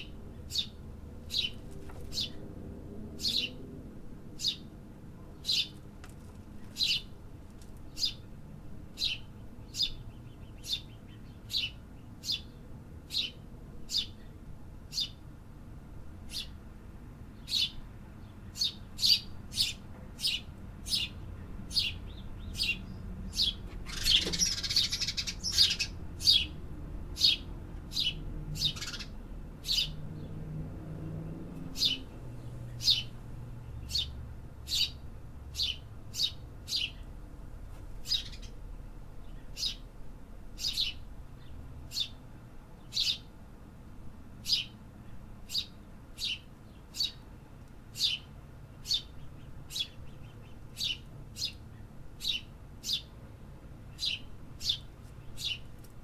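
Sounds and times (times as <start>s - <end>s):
small birds chirping: 0.0s - 3.7s, 4.3s - 15.4s, 16.2s - 43.4s, 44.3s - 56.0s.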